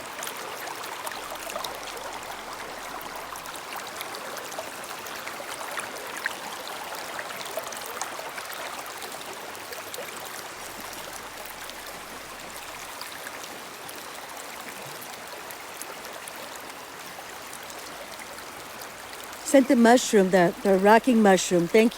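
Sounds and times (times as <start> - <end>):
brook trickling over rocks: 0.0 - 21.9
small water splashes: 0.0 - 21.9.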